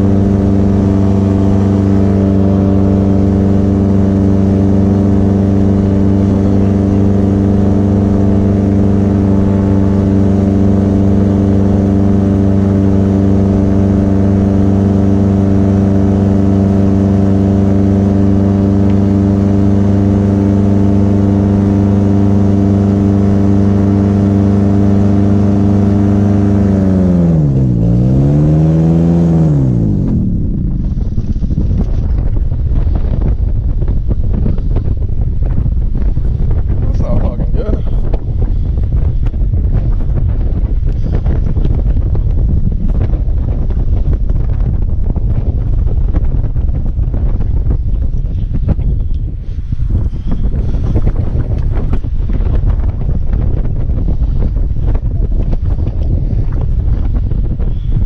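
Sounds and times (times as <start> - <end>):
paramotor engine and propeller: 0.0 - 58.0
wind noise on microphone: 0.0 - 58.0.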